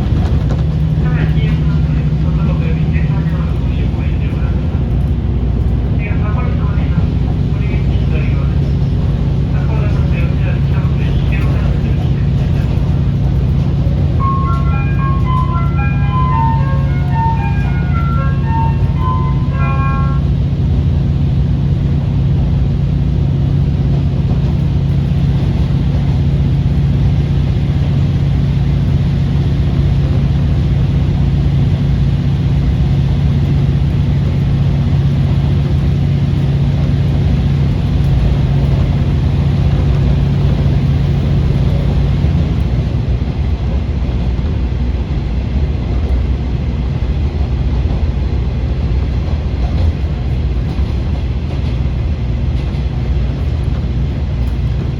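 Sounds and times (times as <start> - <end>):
diesel engine drone: 0.0 - 54.9
train running rumble: 0.0 - 54.9.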